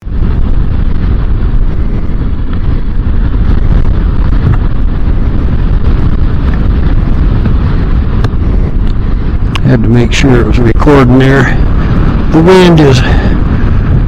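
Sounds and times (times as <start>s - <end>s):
motorcycle running: 0.0s - 14.0s
strong wind on microphone: 0.0s - 14.0s.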